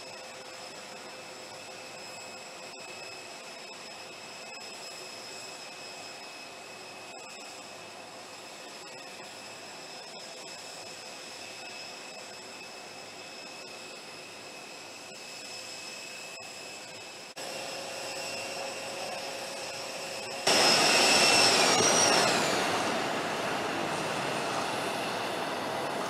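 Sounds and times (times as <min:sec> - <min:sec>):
jet engine whine and roar: 0:00.0 - 0:26.0.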